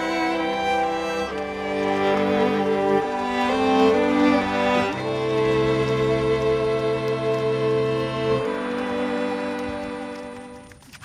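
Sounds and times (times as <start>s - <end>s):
sustained chords music: 0.0s - 10.7s.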